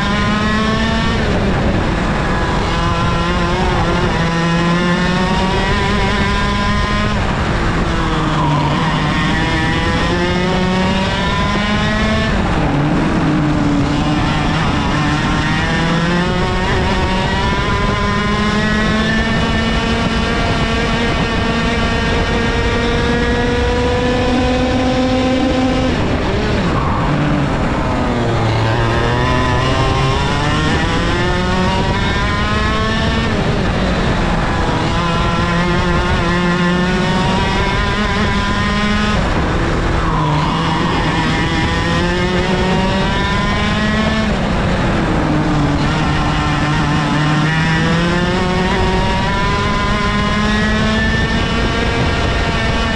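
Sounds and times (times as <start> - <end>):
kart engine revving: 0.0 - 52.9.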